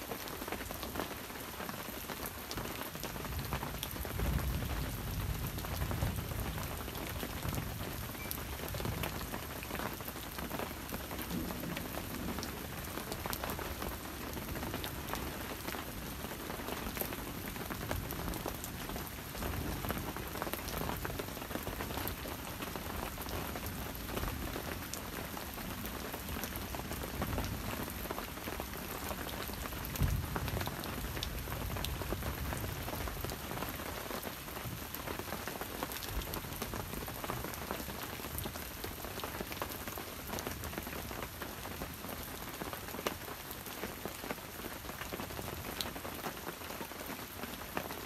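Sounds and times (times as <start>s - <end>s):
rain falling through forest: 0.0s - 48.0s.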